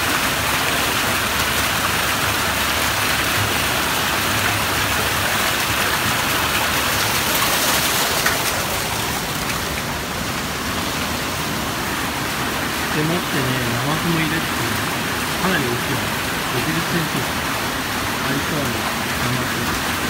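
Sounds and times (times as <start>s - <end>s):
river water rushing and splashing: 0.0s - 20.0s.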